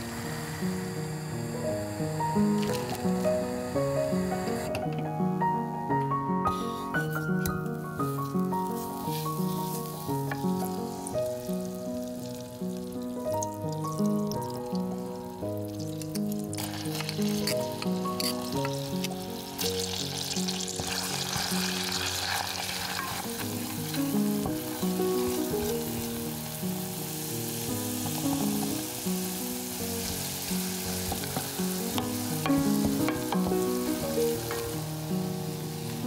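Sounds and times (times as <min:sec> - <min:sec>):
garlic sizzling in butter: 0:00.0 - 0:04.8, 0:06.5 - 0:36.0.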